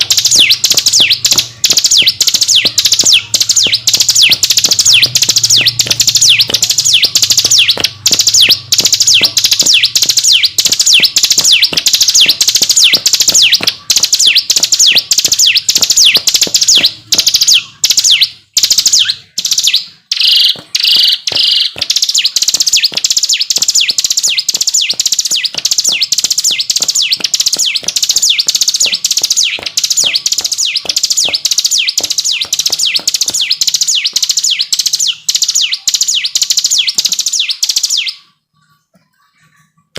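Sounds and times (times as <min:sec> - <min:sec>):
bird singing high down-sweeping notes: 0:00.0 - 0:38.4.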